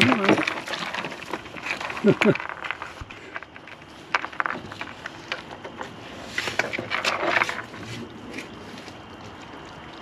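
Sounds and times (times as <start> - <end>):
raccoon scratching in cardboard tube: 0.0 - 9.0.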